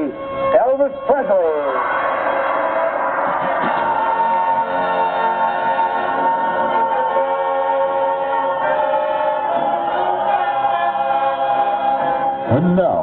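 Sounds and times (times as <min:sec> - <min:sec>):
backing music: 0:00.0 - 0:13.0
choir singing held chords: 0:01.7 - 0:12.6.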